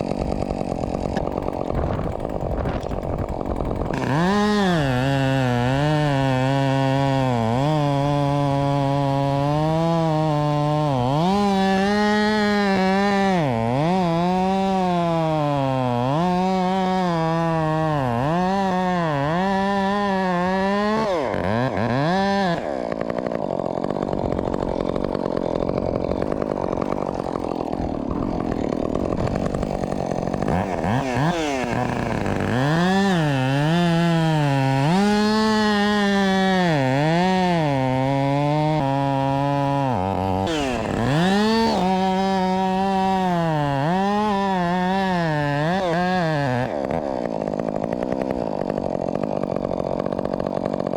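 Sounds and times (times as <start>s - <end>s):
chainsaw revving and cutting wood: 0.0s - 50.9s.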